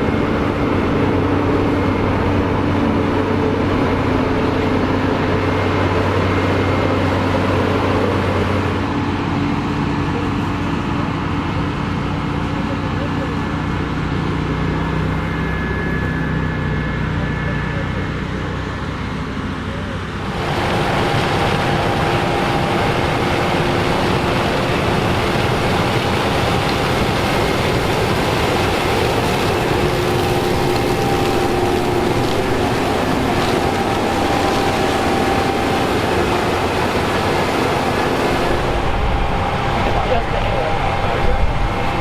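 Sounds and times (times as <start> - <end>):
combine harvester running: 0.0 - 42.0
steady machinery whine: 0.0 - 42.0.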